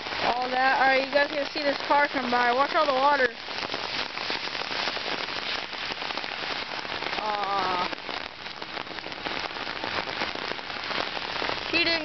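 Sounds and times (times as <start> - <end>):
heavy rain falling: 0.0 - 12.0
raindrops striking an umbrella: 0.0 - 12.0.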